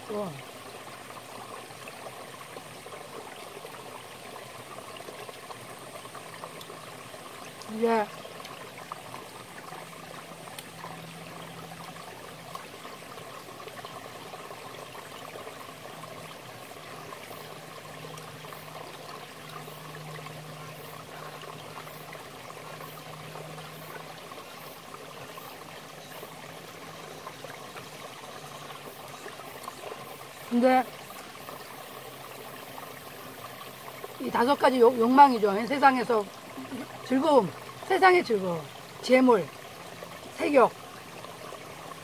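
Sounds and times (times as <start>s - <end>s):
mountain stream rushing: 0.0s - 42.0s.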